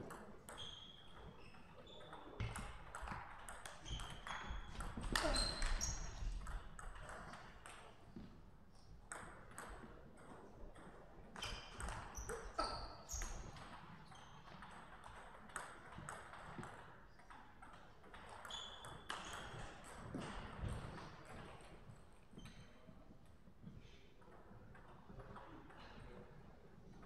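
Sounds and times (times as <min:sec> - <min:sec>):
table tennis balls bouncing: 0:00.0 - 0:22.6.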